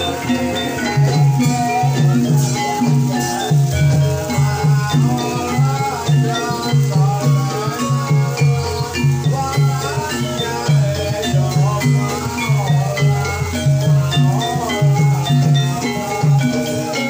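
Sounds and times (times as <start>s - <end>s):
gamelan ensemble playing: 0.0s - 17.0s.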